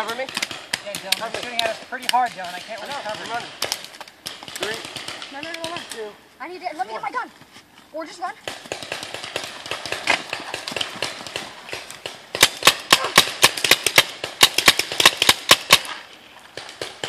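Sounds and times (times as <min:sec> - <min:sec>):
paintball markers firing: 0:00.0 - 0:06.1, 0:08.4 - 0:17.0.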